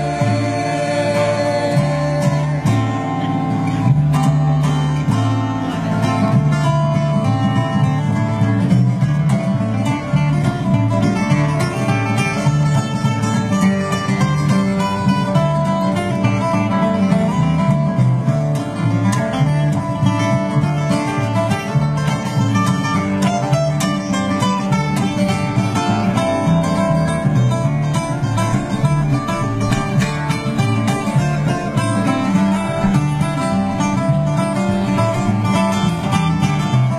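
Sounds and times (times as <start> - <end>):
acoustic guitars: 0.0 - 36.9
plucked upright bass: 0.0 - 36.9.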